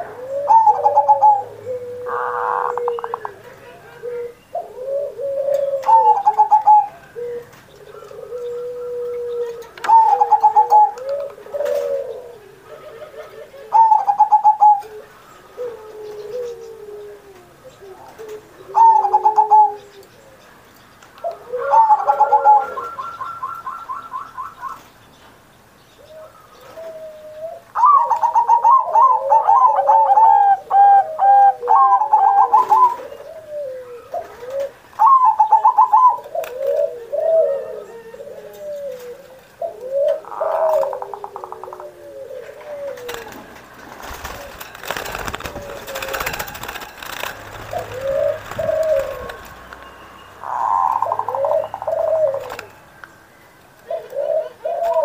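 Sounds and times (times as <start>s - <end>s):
dove cooing: 0.0s - 20.5s, 21.2s - 24.9s, 26.0s - 52.8s, 53.8s - 55.0s.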